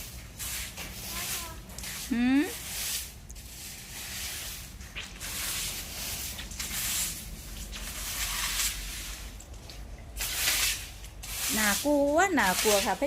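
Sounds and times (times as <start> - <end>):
broom sweeping pavement: 0.0 - 9.5, 10.1 - 13.0.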